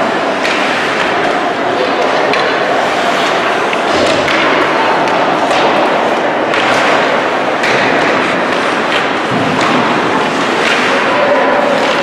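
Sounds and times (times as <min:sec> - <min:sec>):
hockey sticks clacking on puck: 0:00.0 - 0:12.0
steady noisy din: 0:00.0 - 0:12.0
skates cutting ice: 0:00.1 - 0:12.0.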